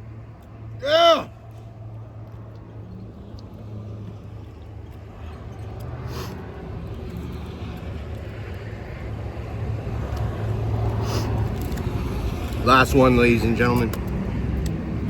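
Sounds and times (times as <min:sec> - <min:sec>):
road traffic hum: 0:00.0 - 0:15.0
vehicle approaching: 0:00.0 - 0:15.0.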